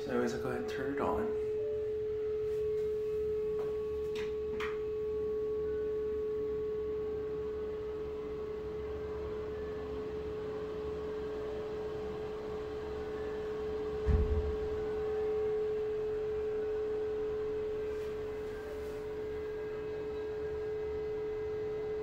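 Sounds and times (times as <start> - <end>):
exhaust fan humming: 0.0 - 22.0.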